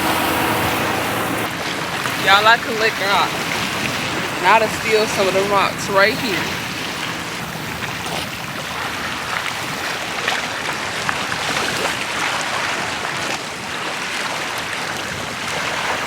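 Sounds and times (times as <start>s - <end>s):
faint water splashes: 0.0s - 16.0s
water washing on rocky shore: 0.0s - 16.0s.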